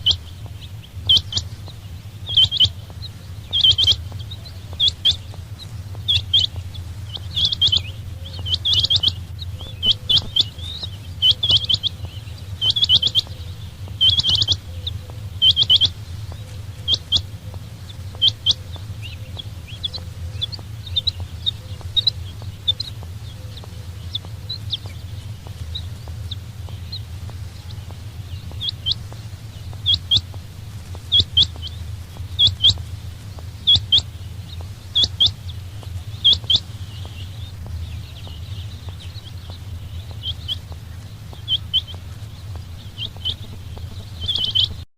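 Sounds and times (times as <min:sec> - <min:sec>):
quail chirping: 0:00.0 - 0:44.8
steady low hum: 0:00.0 - 0:44.9.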